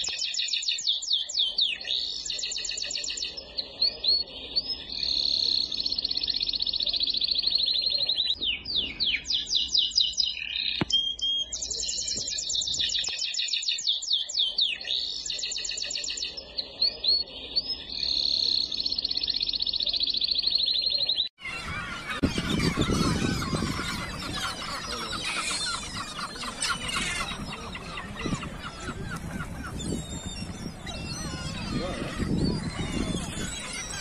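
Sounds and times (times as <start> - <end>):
noisy bird calls: 0.0 - 34.0
songbird singing in trills: 0.0 - 34.0.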